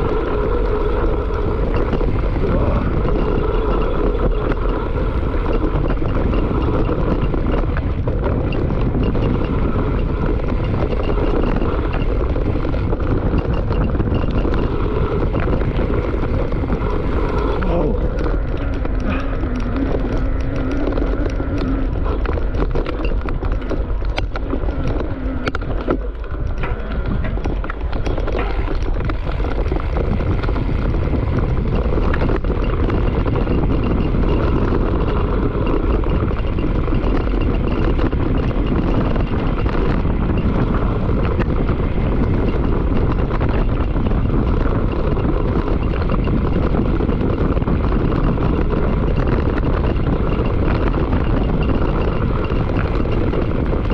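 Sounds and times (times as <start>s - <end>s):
bike clicking and rattling: 0.0s - 53.9s
bike tyres on dirt: 0.0s - 53.9s
wind buffeting microphone: 0.0s - 53.9s.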